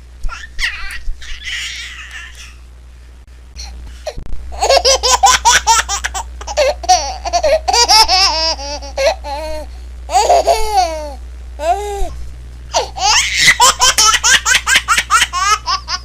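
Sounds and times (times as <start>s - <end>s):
low hum: 0.0s - 16.0s
baby laughing: 0.3s - 2.6s, 4.6s - 11.9s, 12.8s - 16.0s.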